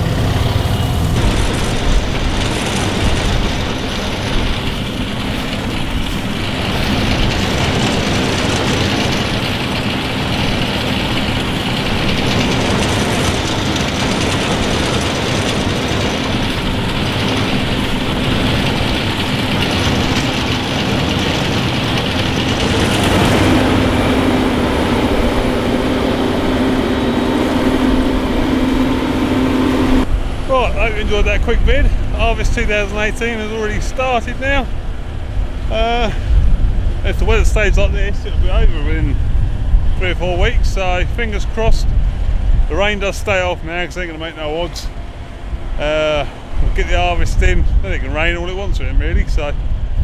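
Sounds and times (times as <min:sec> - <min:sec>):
diesel farm machinery running: 0:00.0 - 0:50.0.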